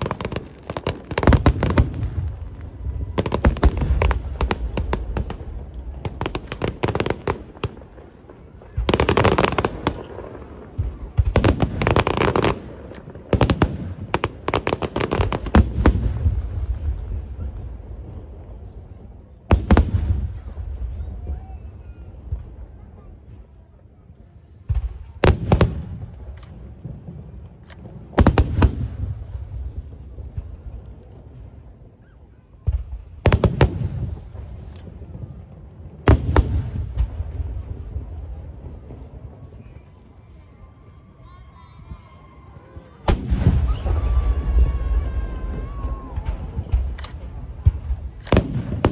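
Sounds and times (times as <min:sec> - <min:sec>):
fireworks bangs and cracks: 0:00.0 - 0:48.9
low rumbling echo: 0:00.0 - 0:48.9.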